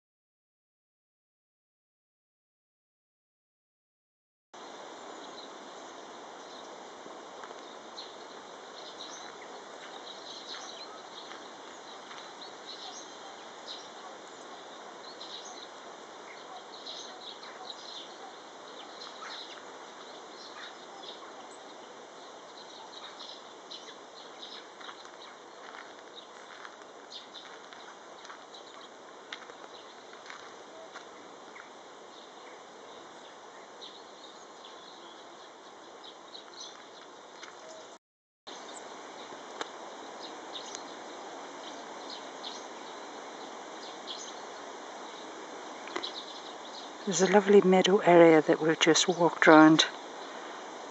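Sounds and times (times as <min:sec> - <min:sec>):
songbirds chirping: 0:04.6 - 0:50.9
steady outdoor hiss: 0:04.6 - 0:50.9.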